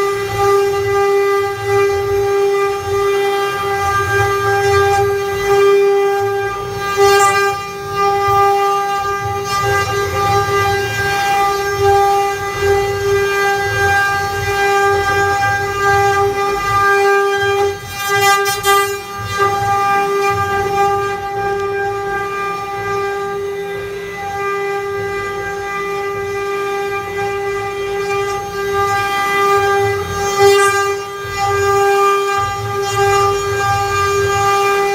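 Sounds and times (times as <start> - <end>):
wood carving router whining: 0.0 - 34.9.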